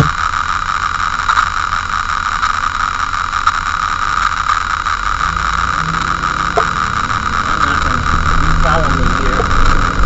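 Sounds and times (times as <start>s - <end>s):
car engine idling: 0.0s - 10.0s
deep engine rumble: 0.0s - 10.0s
steady hiss: 0.0s - 10.0s.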